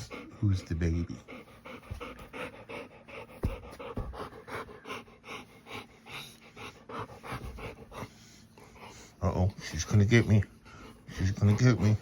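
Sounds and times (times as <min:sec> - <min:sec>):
dog panting fast: 0:00.0 - 0:12.0.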